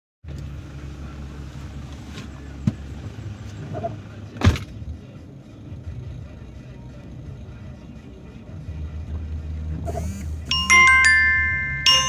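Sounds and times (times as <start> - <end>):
engine idling: 0.3 - 12.0.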